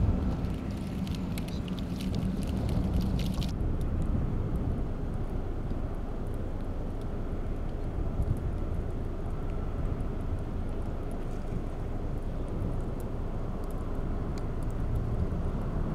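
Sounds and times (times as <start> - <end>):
small crackles and pops: 0.0 - 15.1
steady low rumble: 0.0 - 15.9.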